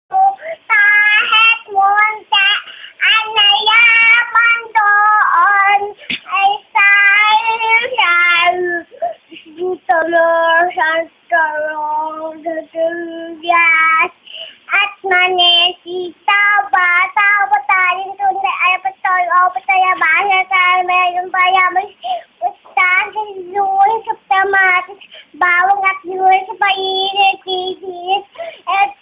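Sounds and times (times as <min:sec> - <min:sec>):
girl singing: 0:00.1 - 0:29.0.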